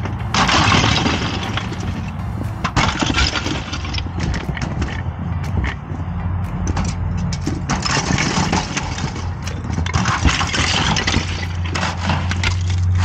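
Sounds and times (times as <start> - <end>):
ice knocking and cracking: 0.0 - 5.0, 7.4 - 13.0
low engine-like hum: 0.0 - 13.0.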